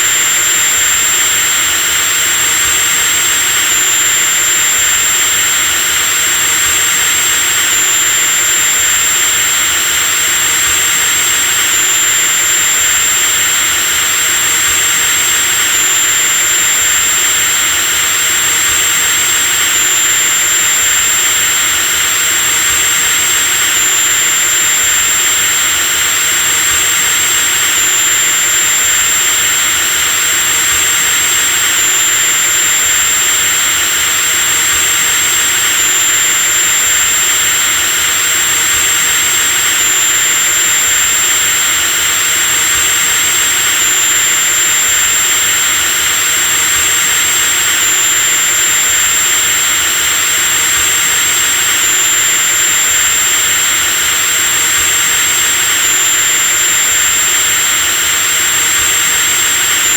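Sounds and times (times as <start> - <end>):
electric drill running: 0.0 - 59.9.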